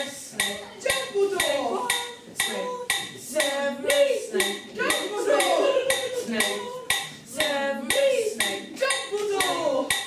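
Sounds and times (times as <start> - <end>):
metallic ticking: 0.0 - 10.0.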